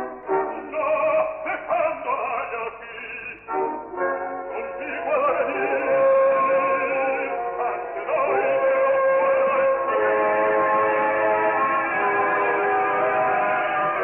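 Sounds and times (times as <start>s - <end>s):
orchestral accompaniment: 0.0s - 1.2s, 3.5s - 14.0s
operatic baritone singing: 0.0s - 14.0s.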